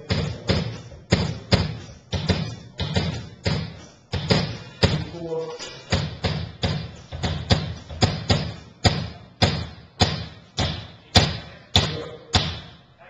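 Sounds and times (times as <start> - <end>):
drum thuds: 0.0 - 12.9.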